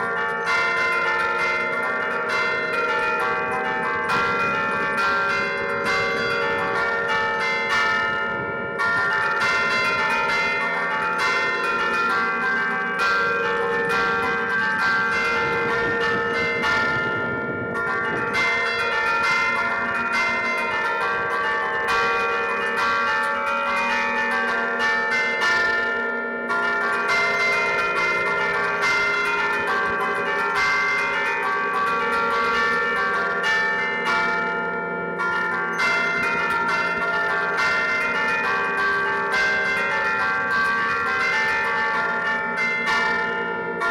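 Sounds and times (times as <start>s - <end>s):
church bells played in a melody: 0.0s - 43.9s.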